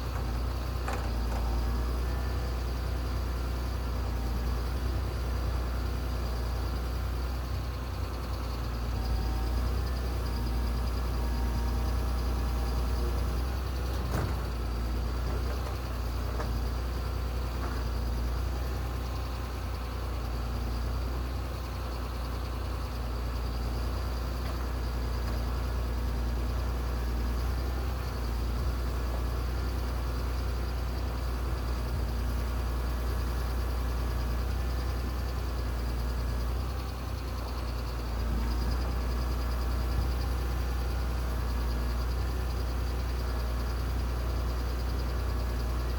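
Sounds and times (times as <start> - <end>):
heavy machine engine rumbling: 0.0 - 45.9.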